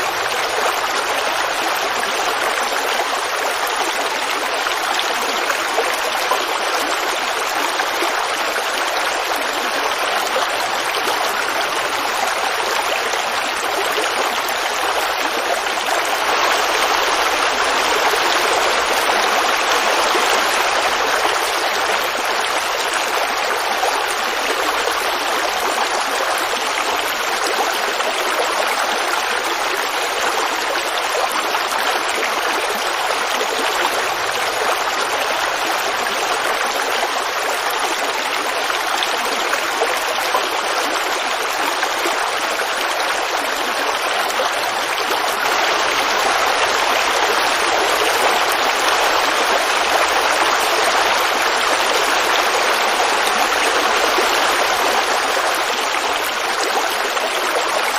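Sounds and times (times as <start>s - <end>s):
creek babbling over rocks: 0.0s - 57.9s.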